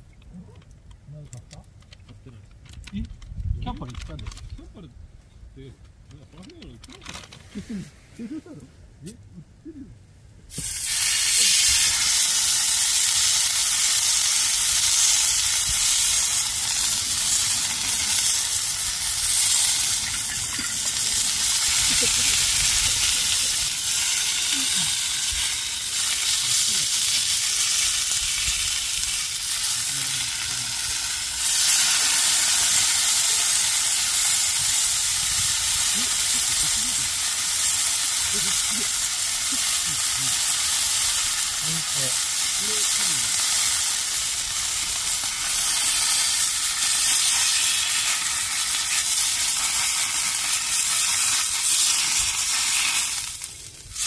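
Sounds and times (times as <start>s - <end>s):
sizzling hiss: 10.4s - 54.0s.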